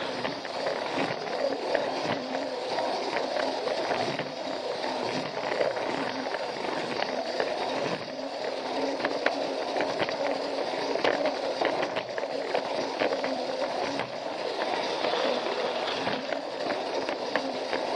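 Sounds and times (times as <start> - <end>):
toy train motor whirring: 0.0 - 17.9
wheels rattling on plastic track: 0.0 - 17.9.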